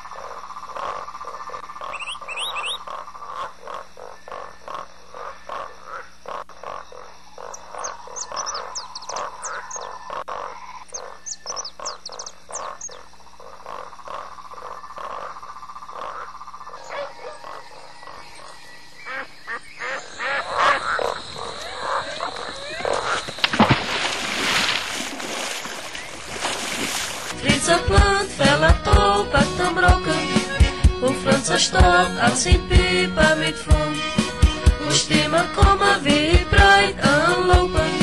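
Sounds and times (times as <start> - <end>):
frogs croaking: 0.0 - 33.8.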